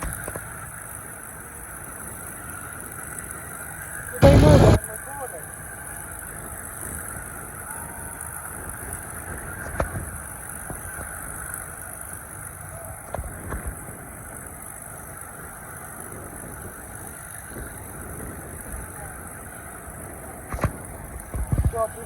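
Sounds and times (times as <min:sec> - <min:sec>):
distant aircraft engines humming: 0:00.0 - 0:22.0.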